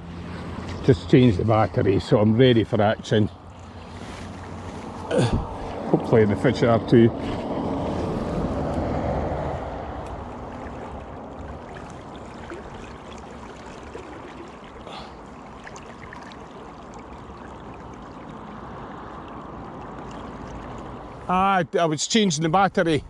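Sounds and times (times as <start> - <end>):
river water flowing and lapping: 0.0 - 23.0.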